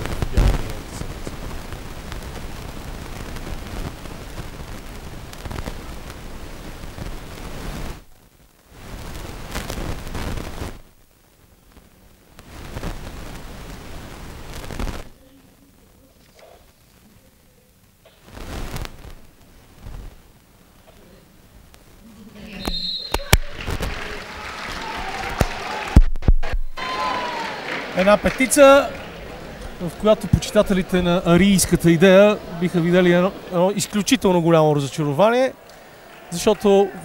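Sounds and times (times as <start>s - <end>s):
low hiss of hall: 0.0s - 37.0s.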